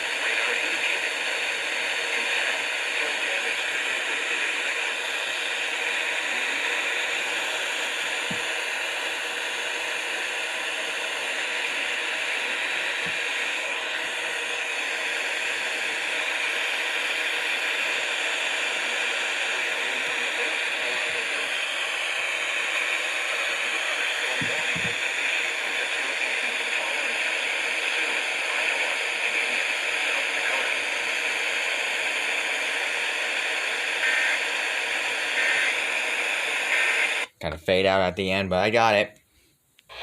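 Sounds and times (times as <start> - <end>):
radio static hiss: 0.0 - 39.1.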